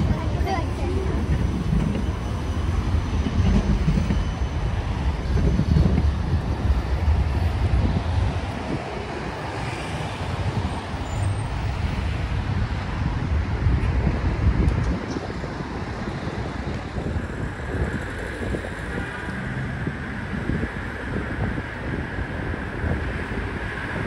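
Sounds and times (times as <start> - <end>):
city street traffic rumble: 0.0 - 24.0.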